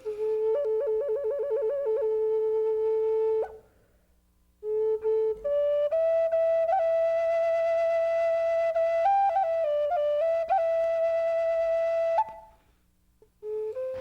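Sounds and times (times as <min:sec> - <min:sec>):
solo flute melody: 0:00.0 - 0:03.8, 0:04.6 - 0:12.7, 0:13.3 - 0:14.0.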